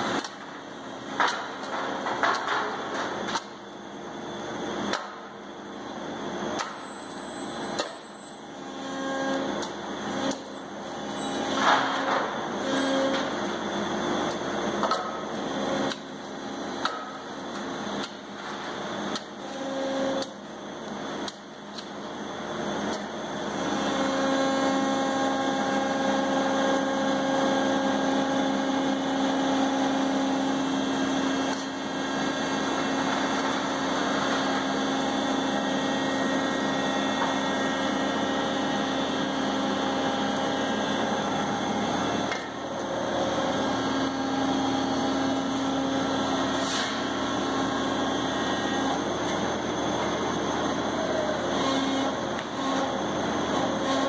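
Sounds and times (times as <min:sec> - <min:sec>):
hydraulic pump whine: 0:00.0 - 0:54.0.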